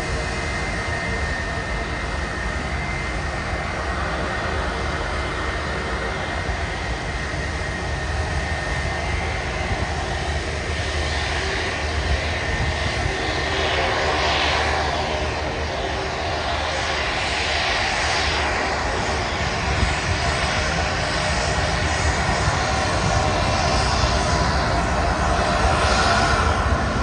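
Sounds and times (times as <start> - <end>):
jet engines at takeoff: 0.0 - 27.0.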